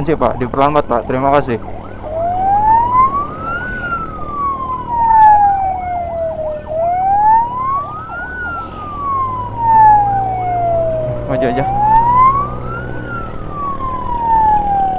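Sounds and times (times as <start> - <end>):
faint warbling siren: 0.0 - 14.9
low engine hum: 0.0 - 14.9
wail siren: 0.0 - 14.9.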